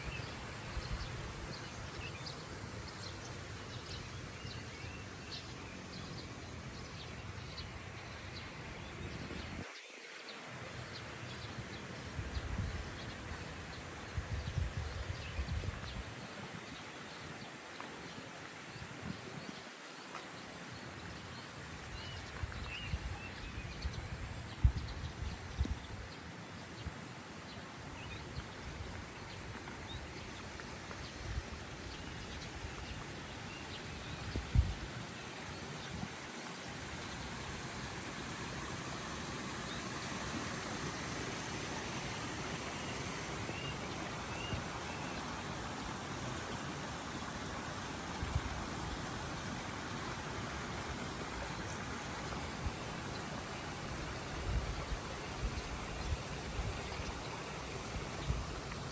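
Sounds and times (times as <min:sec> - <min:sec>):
outdoor ambience: 0:00.0 - 0:58.9.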